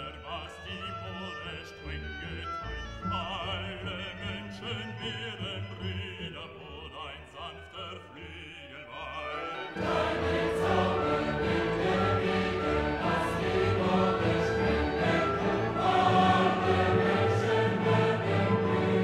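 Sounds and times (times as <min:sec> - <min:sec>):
classical singing with accompaniment: 0:00.0 - 0:19.0.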